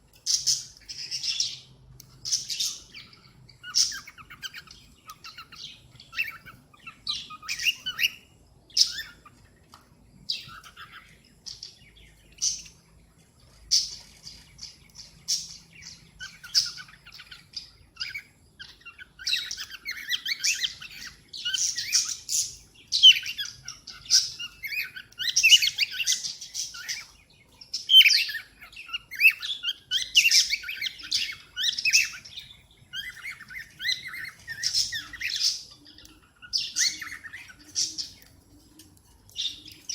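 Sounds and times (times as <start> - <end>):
cockatiel chirping: 0.3 - 8.2, 10.3 - 11.6, 15.3 - 27.1, 27.7 - 39.9.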